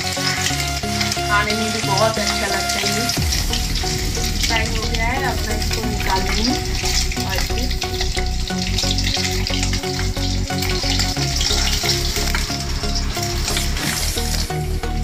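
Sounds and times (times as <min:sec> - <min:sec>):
eggs sizzling in hot oil: 0:00.0 - 0:15.0.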